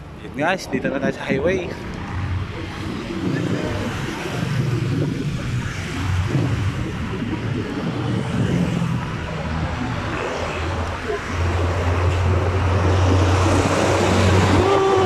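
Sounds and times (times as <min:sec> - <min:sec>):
road traffic: 0:00.0 - 0:15.0
wind noise: 0:00.7 - 0:15.0
passing vehicle engine drone: 0:01.2 - 0:15.0.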